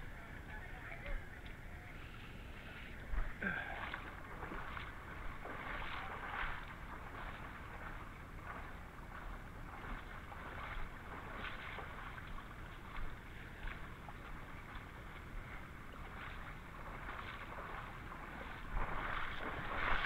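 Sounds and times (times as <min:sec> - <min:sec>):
footsteps splashing through water: 0:00.0 - 0:20.0.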